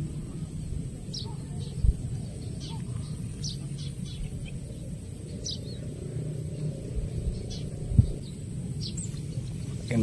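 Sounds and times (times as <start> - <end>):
low outdoor rumble: 0.0 - 10.0
small birds chirping: 0.0 - 10.0.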